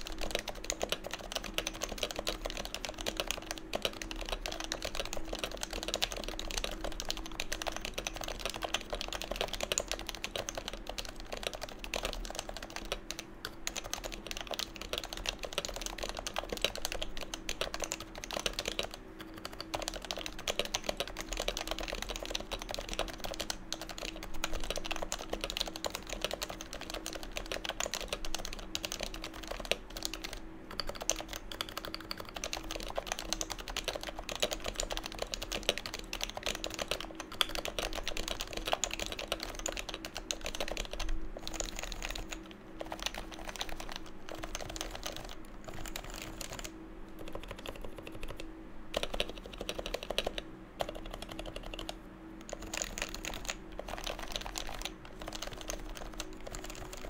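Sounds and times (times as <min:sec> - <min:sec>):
fast keyboard typing: 0:00.0 - 0:57.0.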